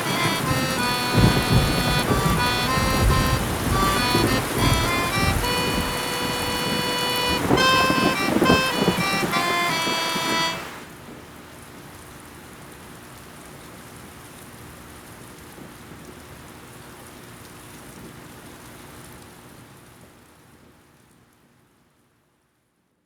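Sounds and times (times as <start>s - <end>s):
steady rain falling: 0.0s - 21.5s.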